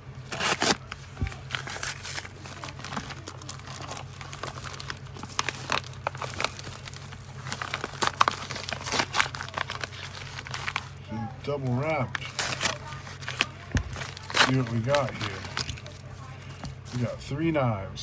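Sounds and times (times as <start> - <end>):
packaging wrap crinkling and tearing: 0.2 - 11.0, 11.8 - 17.1.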